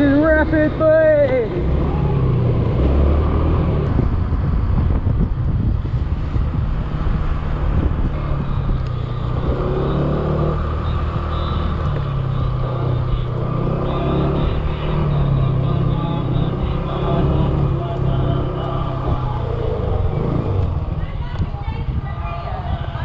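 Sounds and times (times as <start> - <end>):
road and wind noise: 0.0 - 23.0.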